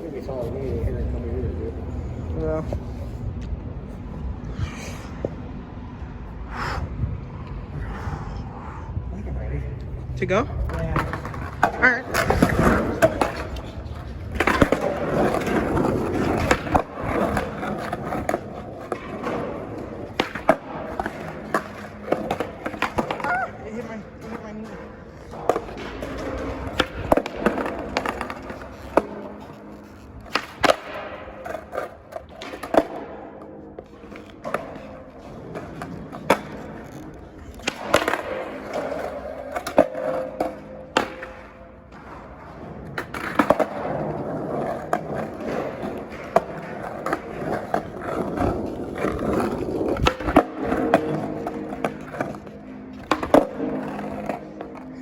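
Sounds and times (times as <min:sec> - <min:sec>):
skateboard rolling: 0:00.0 - 0:55.0
skateboard clacking on ground: 0:09.8 - 0:55.0.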